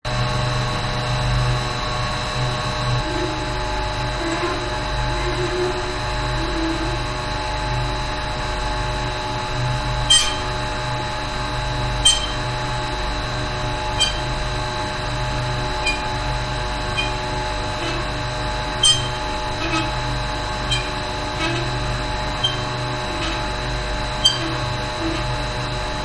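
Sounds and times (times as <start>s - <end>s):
machinery humming: 0.1s - 26.0s.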